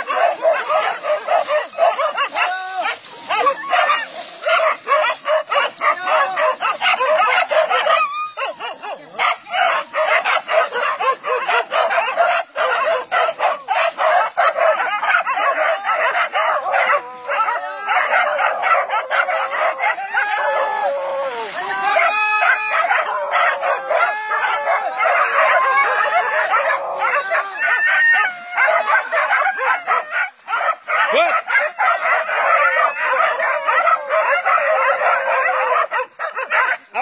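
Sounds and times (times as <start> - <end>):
dogs barking and yelping: 0.0 - 37.0.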